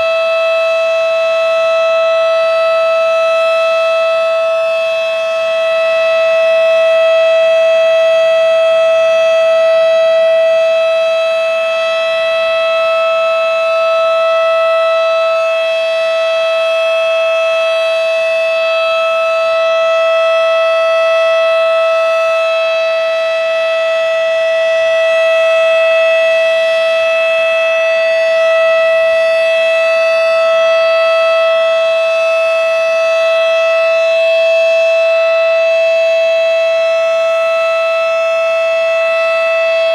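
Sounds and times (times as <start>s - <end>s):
siren steady tone: 0.0s - 39.9s.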